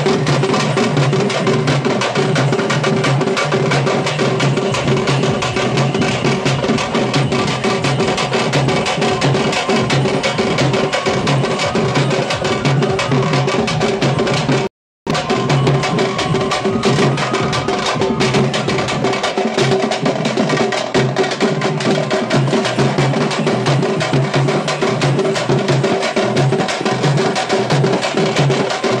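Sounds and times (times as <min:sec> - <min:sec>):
fast loud drumming: 0:00.0 - 0:29.0.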